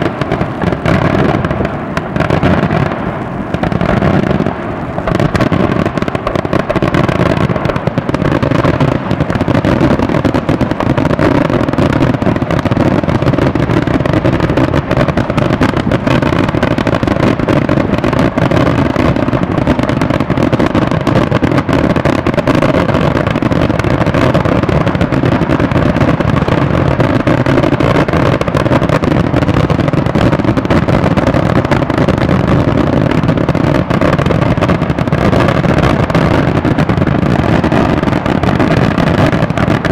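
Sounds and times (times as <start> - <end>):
fireworks barrage: 0.0 - 39.9.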